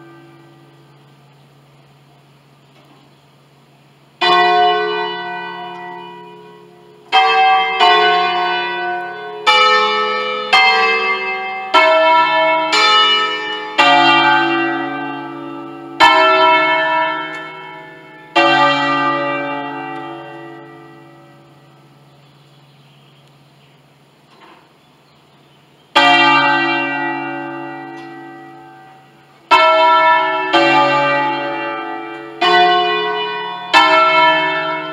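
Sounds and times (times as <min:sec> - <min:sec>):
church bells ringing: 0:00.0 - 0:01.4, 0:04.2 - 0:22.3, 0:25.9 - 0:34.9.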